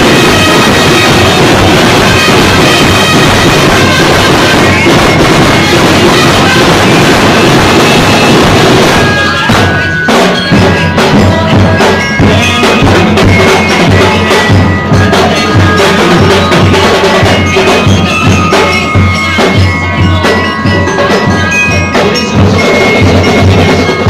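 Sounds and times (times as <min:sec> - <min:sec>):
bass drums: 0:00.0 - 0:24.0
high held notes: 0:00.0 - 0:24.0
snare drums: 0:00.0 - 0:24.0.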